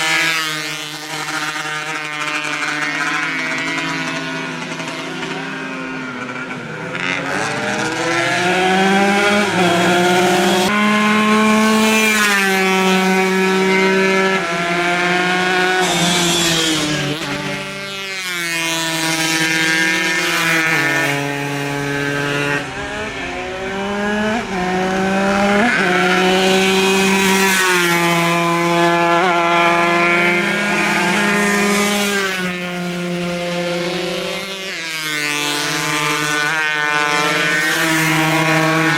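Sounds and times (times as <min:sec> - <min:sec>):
racing motorcycles at full throttle: 0:00.0 - 0:38.9.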